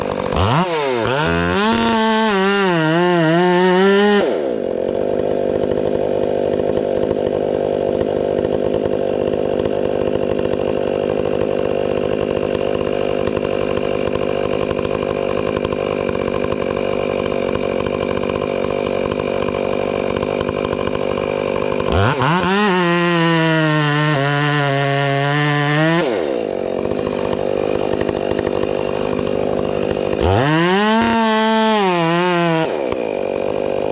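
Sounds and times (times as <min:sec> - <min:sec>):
chainsaw revving and idling: 0:00.0 - 0:33.9.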